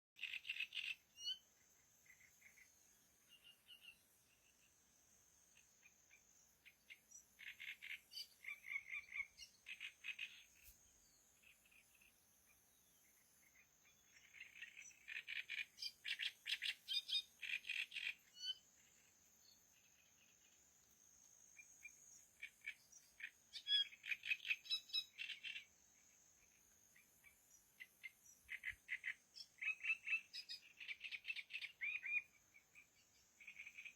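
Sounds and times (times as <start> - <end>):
small bird chirping: 0.2 - 4.8, 5.4 - 33.9.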